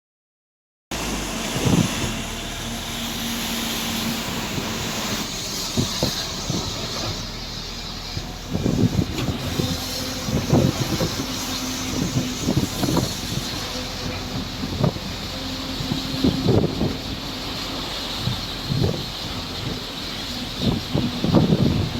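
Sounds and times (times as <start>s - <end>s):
vehicle running noise: 0.9s - 21.9s.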